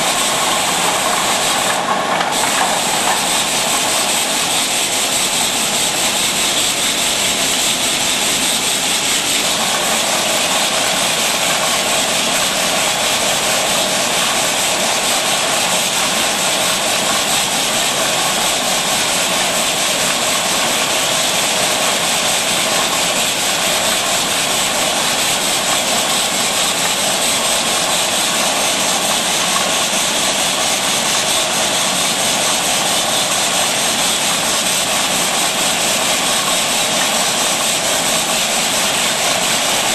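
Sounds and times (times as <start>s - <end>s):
loud steady hissing: 0.0s - 39.9s.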